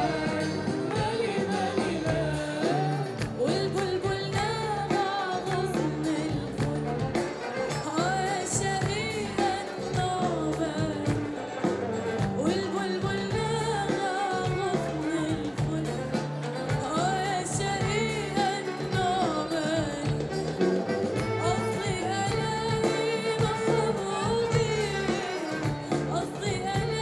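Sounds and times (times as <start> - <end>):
bass guitar: 0.0 - 27.0
drums: 0.0 - 27.0
woman singing amplified: 0.0 - 27.0.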